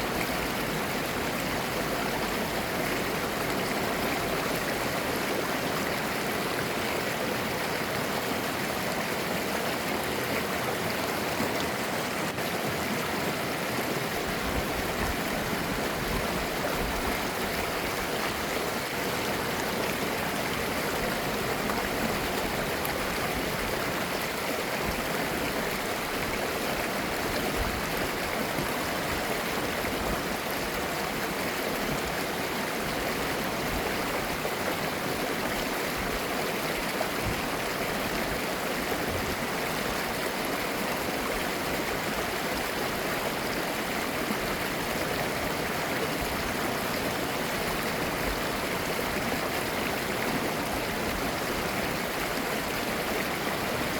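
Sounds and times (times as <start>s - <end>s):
stream flowing over rocks: 0.0s - 53.9s.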